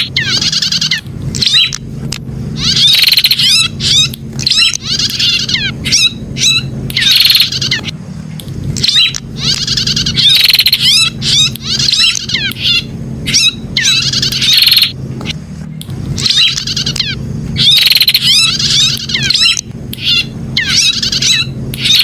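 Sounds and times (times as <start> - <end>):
bird singing chirps and trills: 0.0 - 1.8, 2.5 - 8.0, 8.7 - 22.0
steady low hum: 0.0 - 22.0.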